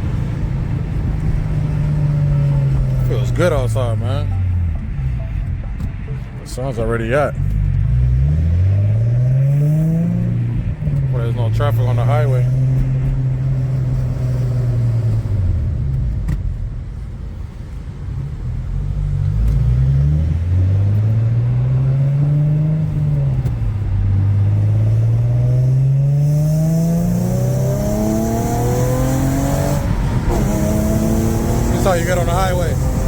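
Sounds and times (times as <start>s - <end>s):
car engine accelerating hard: 0.0s - 16.7s, 17.8s - 33.0s.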